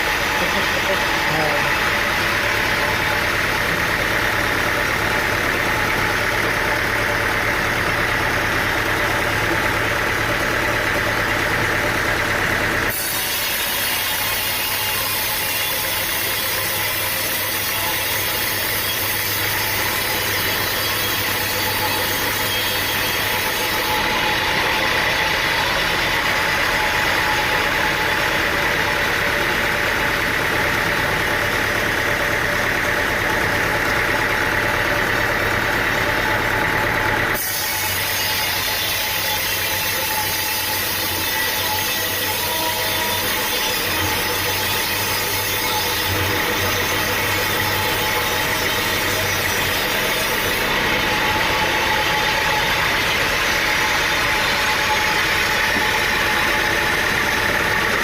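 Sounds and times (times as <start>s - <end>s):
engine running under load: 0.0s - 58.0s.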